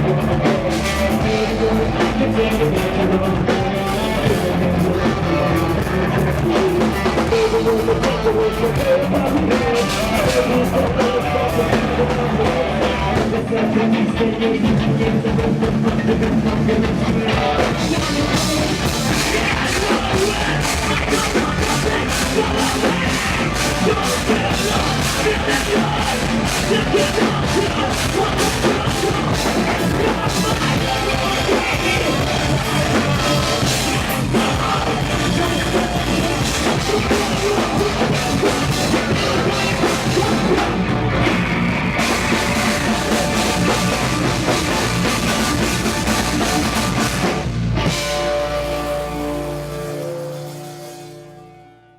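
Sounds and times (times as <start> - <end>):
drum kit beat: 0.0 - 13.6, 14.6 - 51.3
rock band playing: 0.0 - 51.9.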